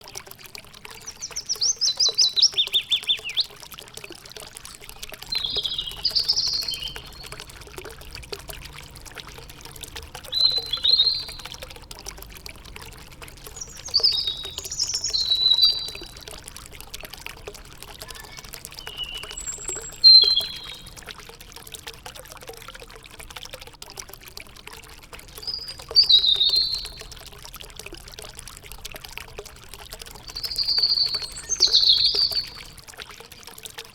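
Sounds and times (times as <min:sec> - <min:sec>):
water trickling: 0:00.0 - 0:33.9
songbirds singing: 0:00.2 - 0:21.7, 0:24.8 - 0:33.9.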